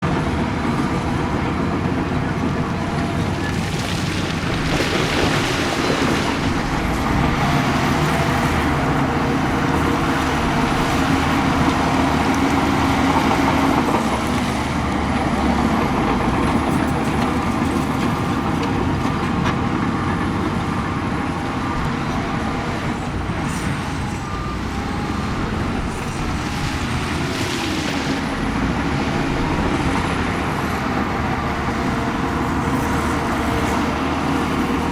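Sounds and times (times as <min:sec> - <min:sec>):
heavy diesel machinery running: 0:00.0 - 0:34.9.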